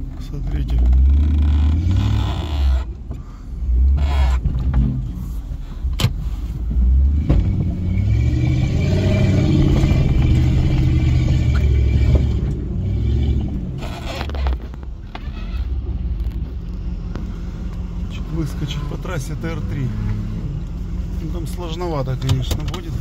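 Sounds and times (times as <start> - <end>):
suv engine revving: 0.0 - 23.0.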